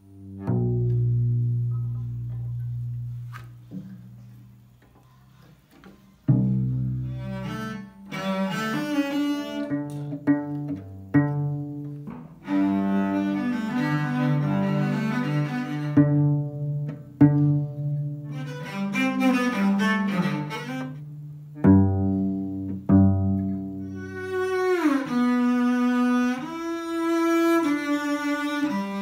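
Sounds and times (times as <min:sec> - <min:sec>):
bowed cello melody: 0:00.0 - 0:04.9, 0:05.9 - 0:29.0.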